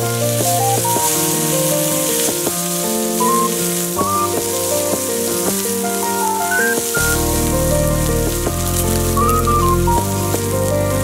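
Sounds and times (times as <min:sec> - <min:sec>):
background music melody: 0:00.0 - 0:11.0
steaks sizzling on griddle: 0:00.0 - 0:11.0.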